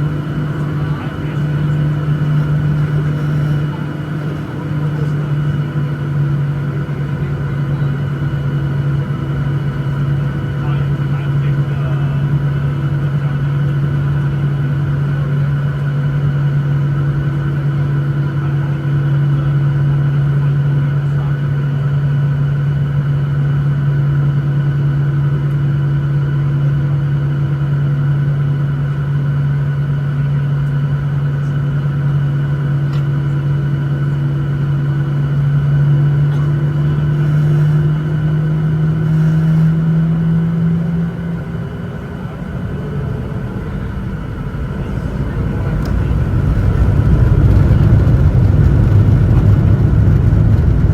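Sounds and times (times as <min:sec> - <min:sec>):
jet engines drone in cabin: 0:00.0 - 0:50.9.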